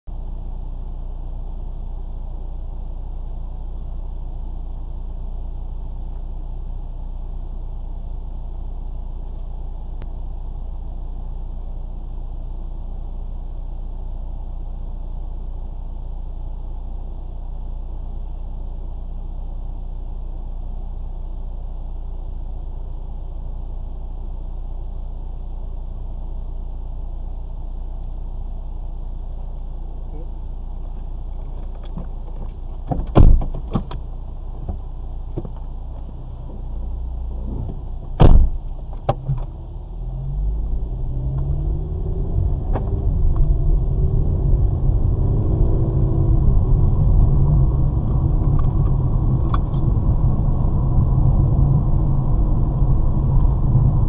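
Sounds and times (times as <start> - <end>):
car engine idling: 0.1 - 54.0.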